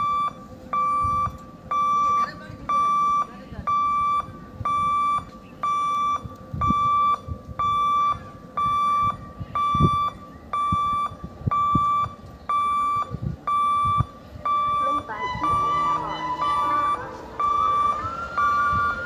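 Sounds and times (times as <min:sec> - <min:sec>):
level crossing warning beeps: 0:00.0 - 0:19.0.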